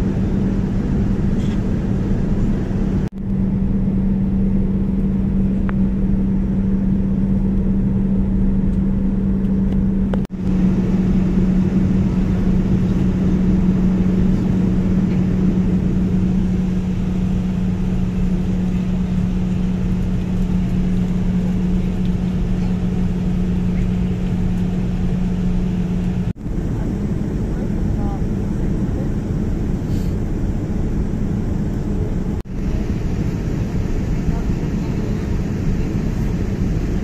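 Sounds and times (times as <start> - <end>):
airliner cabin noise: 0.0 - 37.0.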